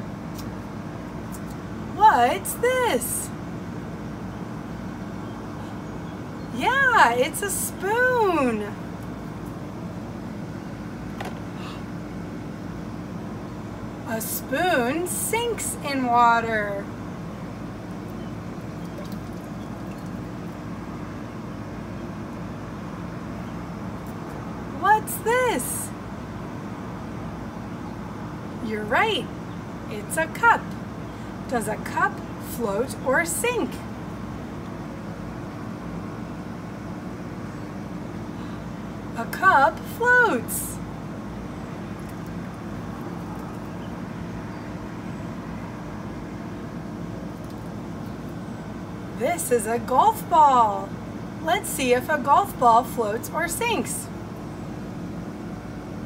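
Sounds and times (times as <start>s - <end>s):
background hum and rumble: 0.0s - 56.0s.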